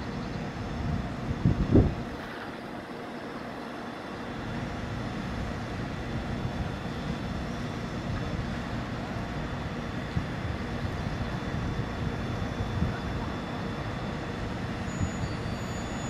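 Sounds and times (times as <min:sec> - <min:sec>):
crane engine droning: 0:00.0 - 0:16.0.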